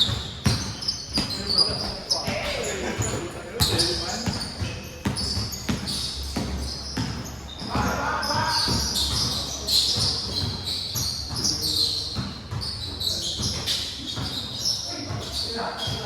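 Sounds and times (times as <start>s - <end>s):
basketball bouncing on court: 0.0s - 16.0s
shoe squeaks: 0.0s - 16.0s.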